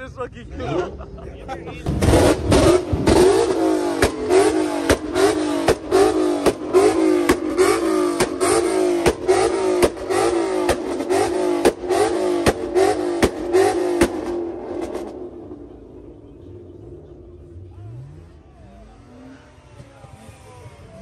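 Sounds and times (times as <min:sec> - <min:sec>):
car engine revving hard: 0:01.8 - 0:21.0.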